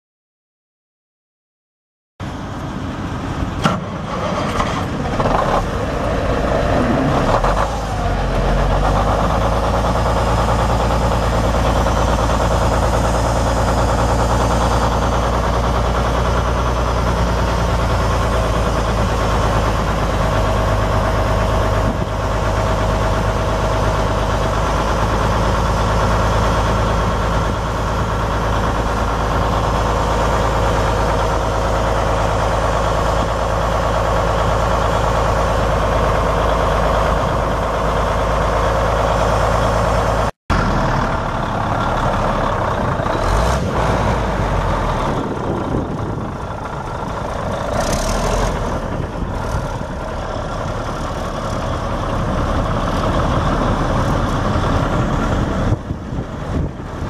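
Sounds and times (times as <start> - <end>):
diesel engine starting and idling: 2.2 - 57.0.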